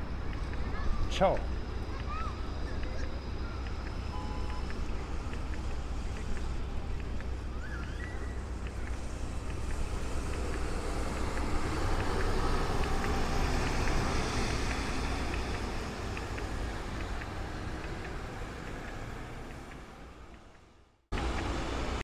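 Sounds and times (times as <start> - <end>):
city street traffic rumble: 0.0 - 22.0.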